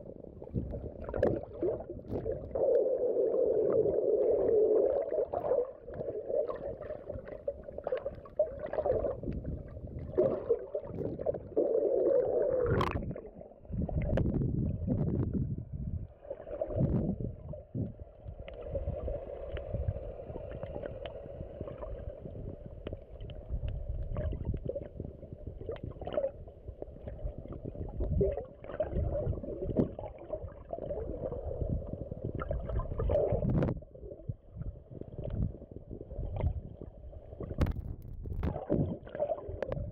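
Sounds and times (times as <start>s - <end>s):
underwater rumble and gurgling: 0.0s - 39.9s.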